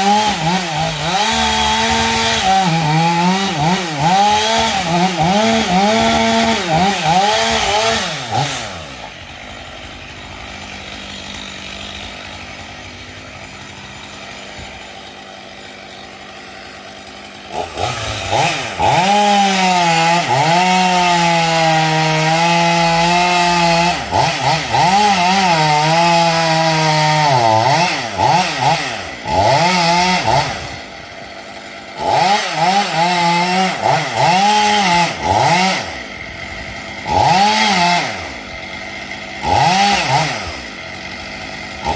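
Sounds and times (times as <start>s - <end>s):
chainsaw cutting wood: 0.0s - 41.9s
chainsaw idling and revving: 0.0s - 41.9s.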